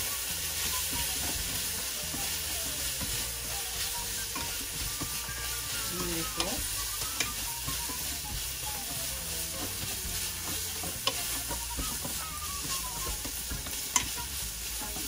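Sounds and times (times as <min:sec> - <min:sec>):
chicken sizzling in a skillet: 0:00.0 - 0:15.0
chopsticks stirring: 0:00.0 - 0:15.0.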